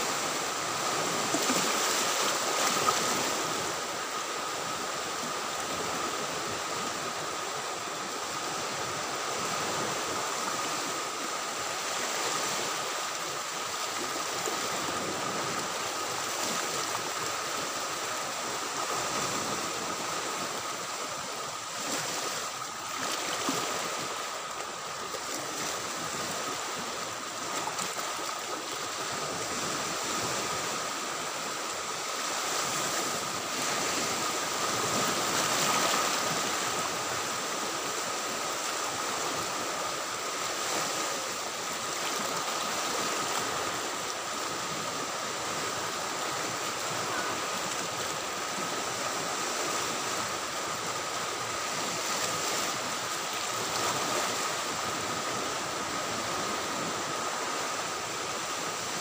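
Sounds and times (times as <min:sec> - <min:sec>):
small waves lapping in shallow water: 0:00.0 - 0:59.0.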